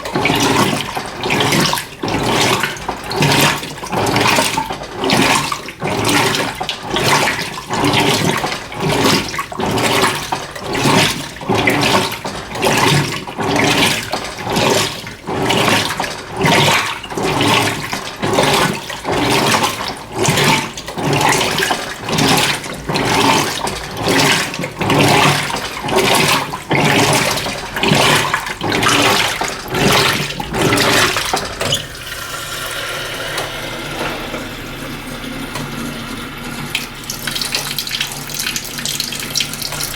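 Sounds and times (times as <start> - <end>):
washing machine sloshing water: 0.0 - 39.9
water rushing: 0.0 - 39.9.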